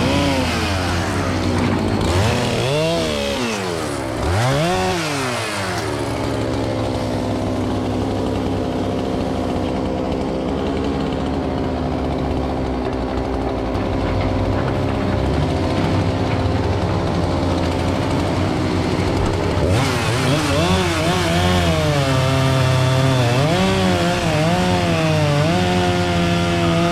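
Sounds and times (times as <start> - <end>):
engine running steadily: 0.0 - 26.9.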